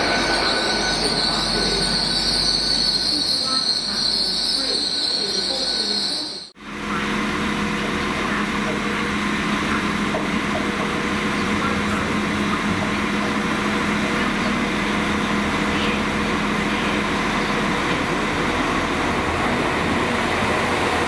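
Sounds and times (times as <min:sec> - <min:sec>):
train engine humming: 0:00.0 - 0:21.0.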